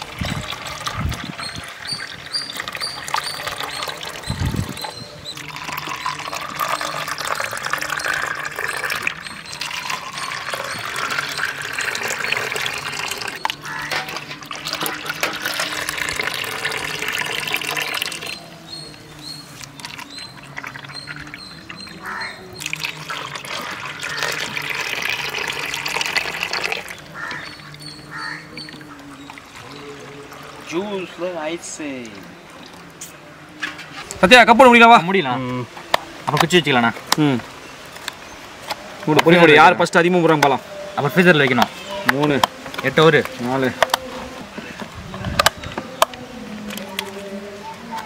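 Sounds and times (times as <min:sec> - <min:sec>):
juice pouring into plastic cups: 0:00.0 - 0:33.1, 0:36.2 - 0:48.0.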